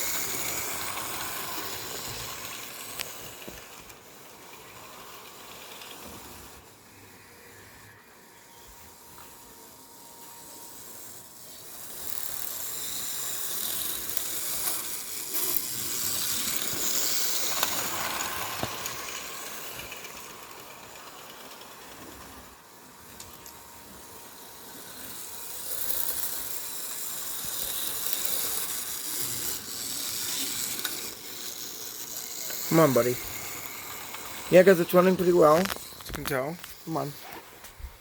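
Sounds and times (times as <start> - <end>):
model train whirring on track: 0.0 - 38.0.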